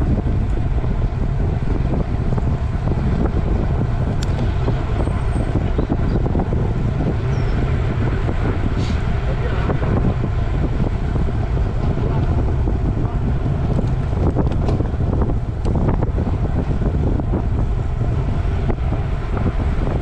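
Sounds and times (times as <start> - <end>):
bicycle tyre rumble on asphalt: 0.0 - 20.0
wind rushing over microphone: 0.0 - 20.0.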